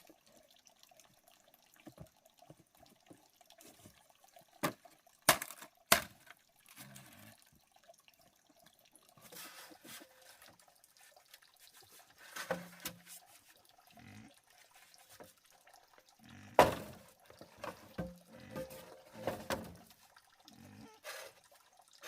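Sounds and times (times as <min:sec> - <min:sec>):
water splashing and dripping: 0:00.0 - 0:22.0.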